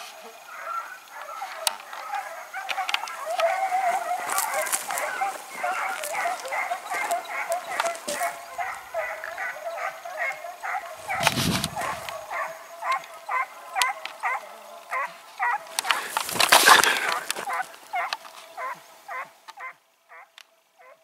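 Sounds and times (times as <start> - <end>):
hounds baying: 0.0 - 21.0.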